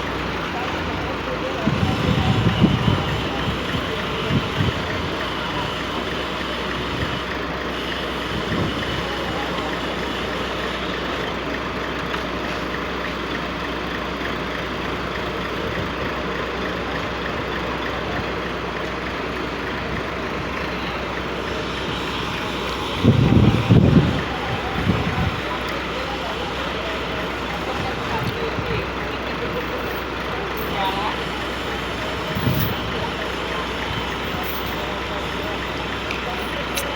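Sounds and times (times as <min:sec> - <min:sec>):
roadside traffic noise: 0:00.0 - 0:36.9.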